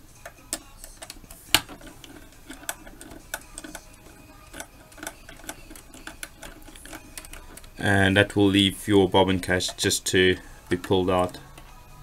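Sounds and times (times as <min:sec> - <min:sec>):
screwdriver clicking on metal: 0:00.0 - 0:11.9.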